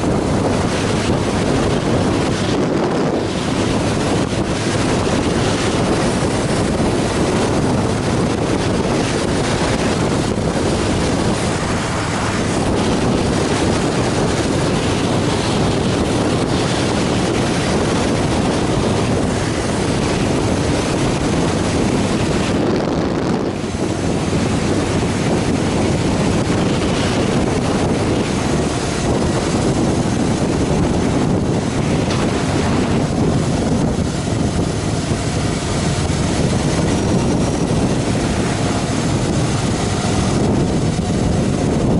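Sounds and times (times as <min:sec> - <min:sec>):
motorcycle engine running: 0:00.0 - 0:41.9
wind rushing on microphone: 0:00.0 - 0:41.9.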